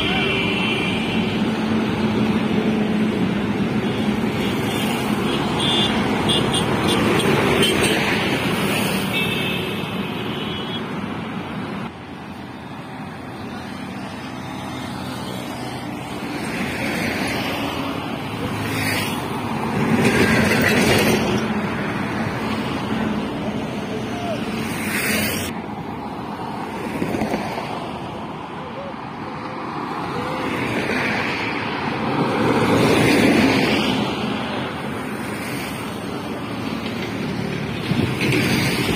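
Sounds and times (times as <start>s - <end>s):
motorcycles passing: 0.0s - 28.9s, 29.6s - 38.9s
bus passing: 0.0s - 38.9s
cars passing: 0.0s - 38.9s
trucks passing: 0.0s - 38.9s.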